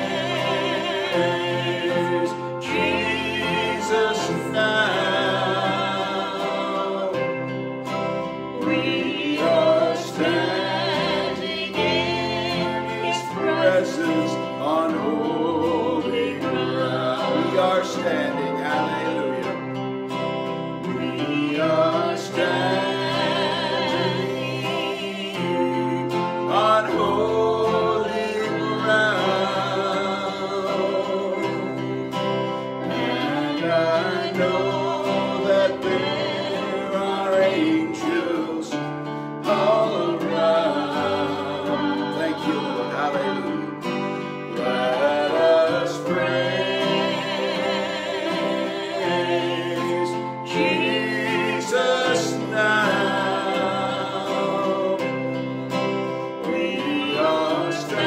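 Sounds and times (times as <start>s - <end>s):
man singing with vibrato: 0.0s - 58.0s
strummed acoustic guitar: 0.0s - 58.0s.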